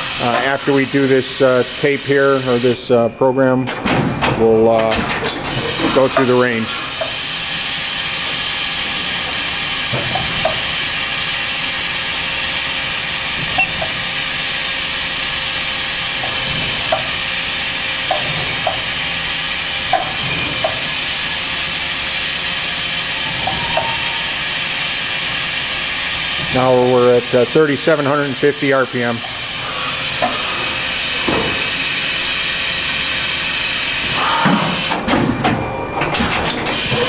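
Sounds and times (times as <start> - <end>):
machining center hissing: 0.0 - 37.0.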